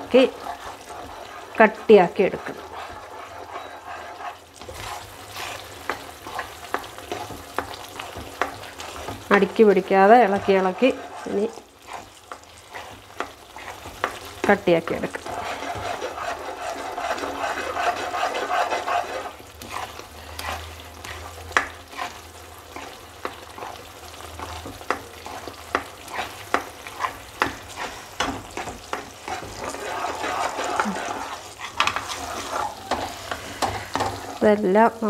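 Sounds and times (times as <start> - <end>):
spatula scraping a pan: 0.0 - 34.6
frying sizzle: 0.0 - 35.0.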